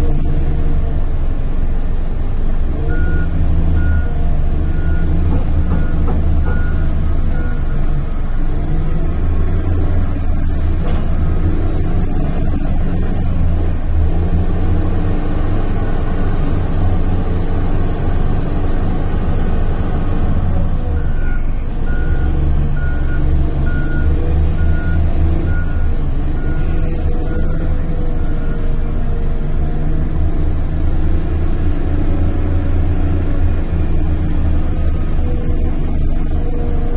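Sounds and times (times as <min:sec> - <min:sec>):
wheel loader diesel engine droning: 0:00.0 - 0:36.9.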